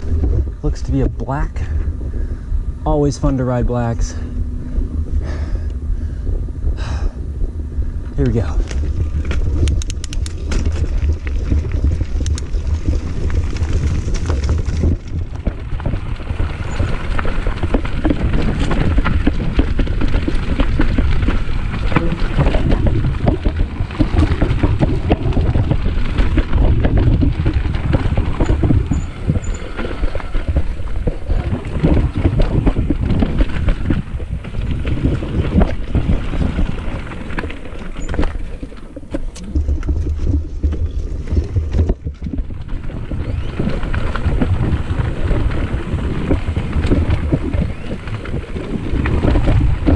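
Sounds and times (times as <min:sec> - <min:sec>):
bike clattering and rattling: 0:00.0 - 0:49.9
tyres on dirt: 0:00.0 - 0:49.9
wind rumbling on microphone: 0:00.0 - 0:49.9.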